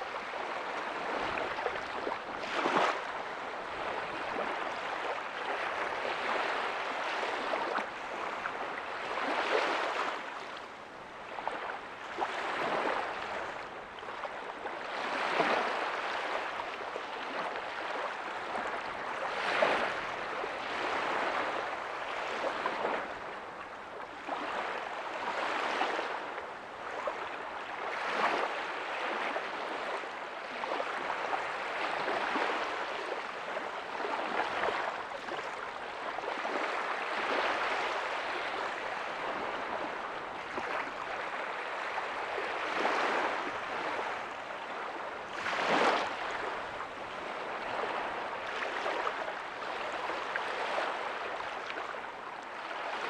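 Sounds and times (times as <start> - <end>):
small waves breaking on beach: 0.0 - 53.0.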